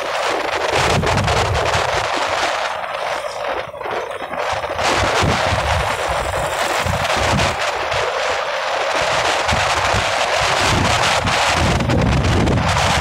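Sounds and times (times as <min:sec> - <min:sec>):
engine rumble: 0:00.0 - 0:13.0
wind buffeting microphone: 0:00.0 - 0:13.0.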